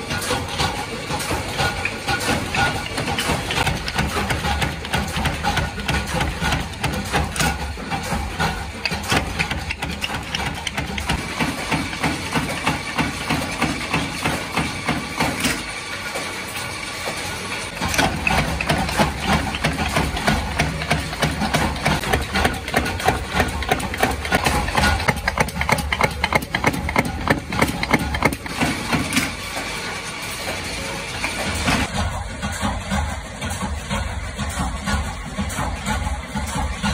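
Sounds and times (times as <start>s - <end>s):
machine running noise: 0.0s - 36.9s
motor and flywheel hum: 0.0s - 36.9s
power press clanking: 0.0s - 36.9s.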